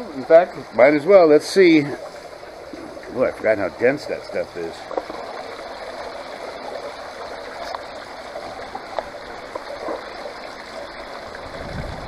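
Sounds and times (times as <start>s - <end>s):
water running down metal sluice: 0.0s - 12.0s.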